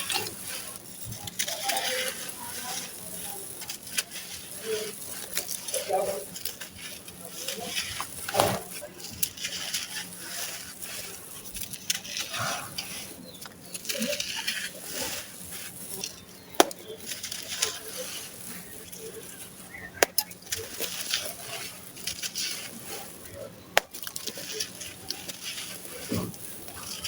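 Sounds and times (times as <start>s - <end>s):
dry sand-cement crumbling: 0.0s - 27.0s.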